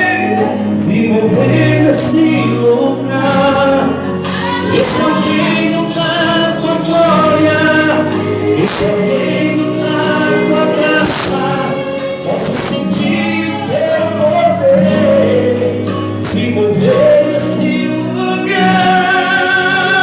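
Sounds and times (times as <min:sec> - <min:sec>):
gospel singing over a band: 0:00.0 - 0:20.0.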